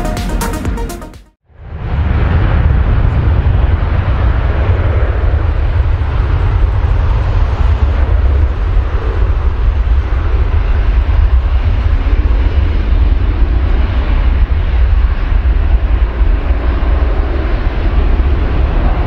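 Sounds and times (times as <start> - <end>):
jet engine roar: 1.5 - 19.0.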